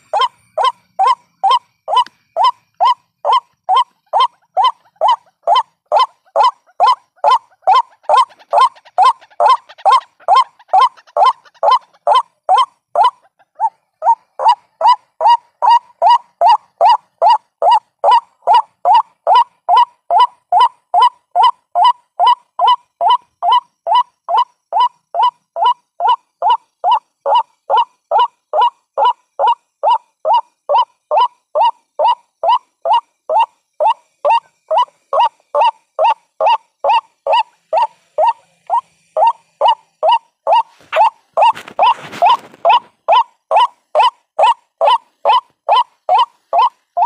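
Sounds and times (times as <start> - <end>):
waterhen nasal call: 0.0 - 23.6, 24.4 - 47.0.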